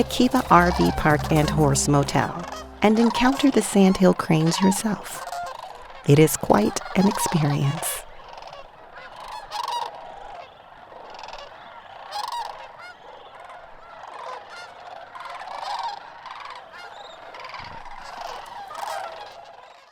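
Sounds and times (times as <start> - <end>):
flock of cranes calling: 0.0 - 5.8, 6.6 - 19.9.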